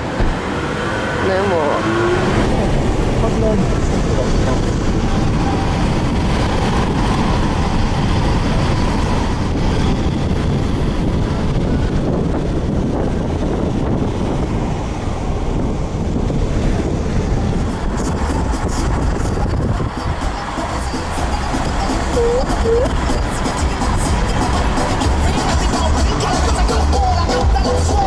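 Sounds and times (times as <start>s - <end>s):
car cabin road and wind noise: 0.0s - 28.0s.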